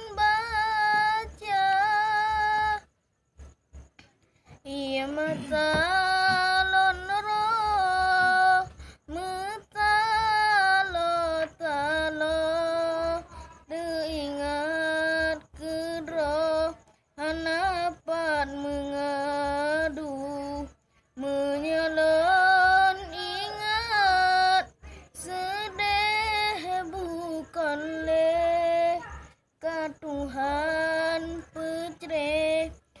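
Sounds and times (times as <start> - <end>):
boy singing unaccompanied: 0.0 - 33.0.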